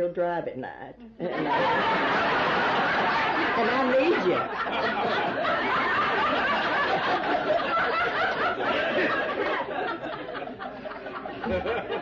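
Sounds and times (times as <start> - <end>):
audience laughing: 1.3 - 12.0.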